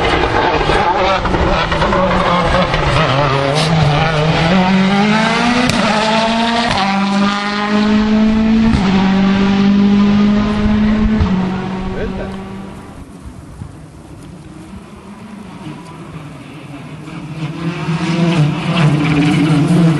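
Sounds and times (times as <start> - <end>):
rally car engine at full throttle: 0.0 - 19.9.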